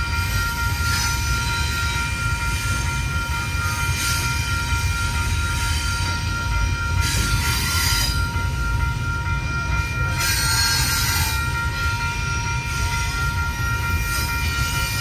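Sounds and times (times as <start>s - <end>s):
crossing bell ringing: 0.0s - 15.0s
freight train rumbling past: 0.0s - 15.0s.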